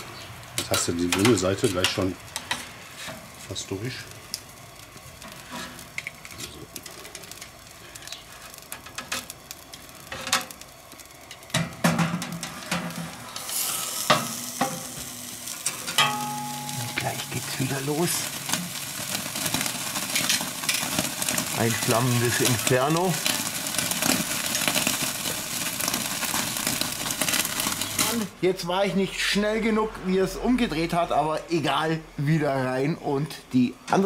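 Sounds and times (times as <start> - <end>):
steak sizzling and crackling: 0.0 - 28.4.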